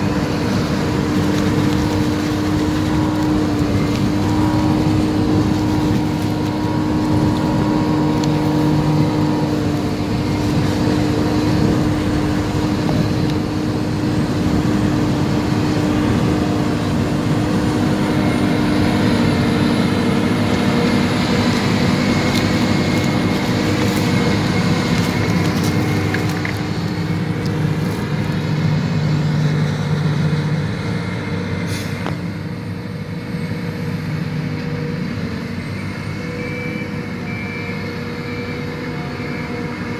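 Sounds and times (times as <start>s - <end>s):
forage harvester drone: 0.0s - 39.9s.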